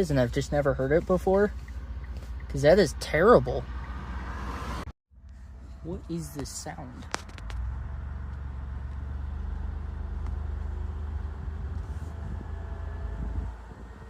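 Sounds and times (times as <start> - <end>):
car rumbling with fast flutter: 0.0 - 14.0.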